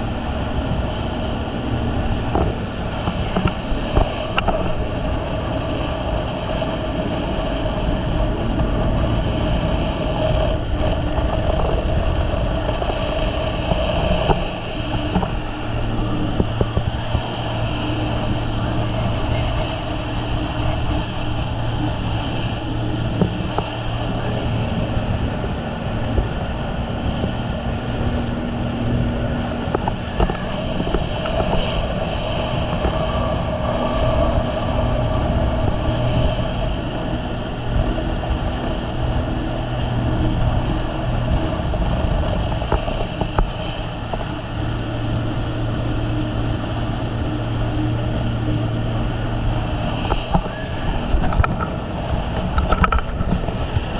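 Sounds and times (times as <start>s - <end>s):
jet ski engine running: 0.0s - 53.9s
water rushing under hull: 0.0s - 53.9s.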